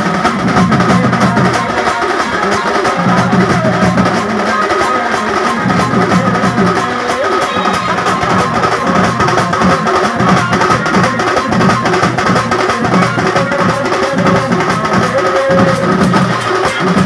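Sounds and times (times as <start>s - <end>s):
street drum band playing: 0.0s - 17.0s.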